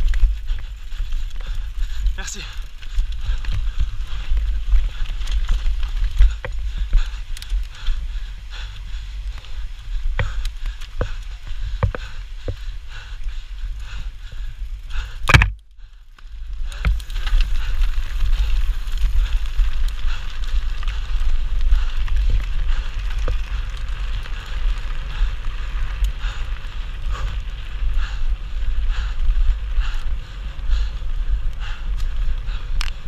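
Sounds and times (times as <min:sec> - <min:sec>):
bike rattling over bumps: 0:00.0 - 0:33.0
tyres crackling on gravel: 0:00.0 - 0:33.0
wind rumble on microphone: 0:00.0 - 0:33.0.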